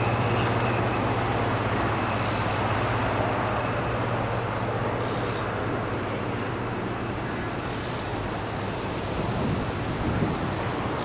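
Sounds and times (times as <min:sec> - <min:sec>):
diesel train engine drone: 0:00.0 - 0:11.0
train running noise: 0:00.0 - 0:11.0.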